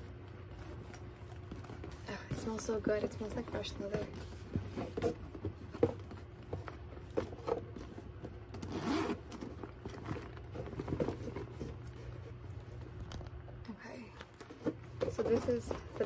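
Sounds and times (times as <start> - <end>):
handbag handling rustles: 0.0 - 13.4, 14.3 - 16.0.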